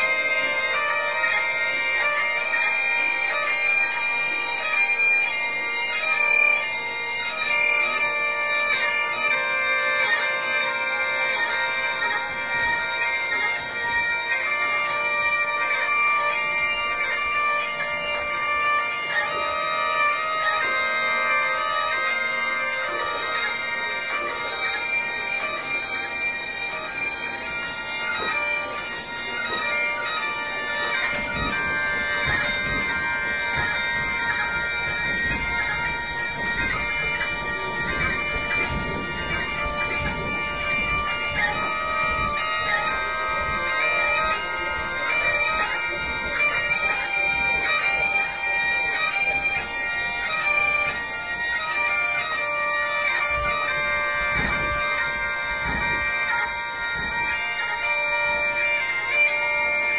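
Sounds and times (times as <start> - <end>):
bagpipes playing: 0.0 - 59.9.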